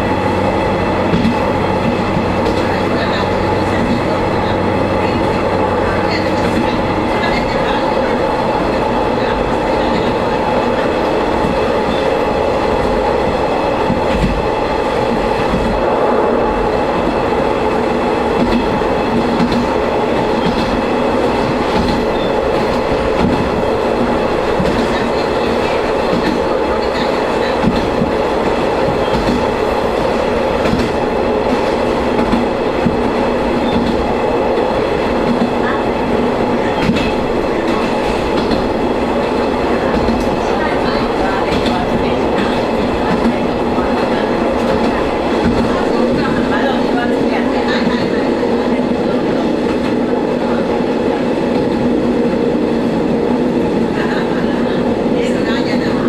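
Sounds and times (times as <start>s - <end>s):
railcar engine droning: 0.0s - 56.0s.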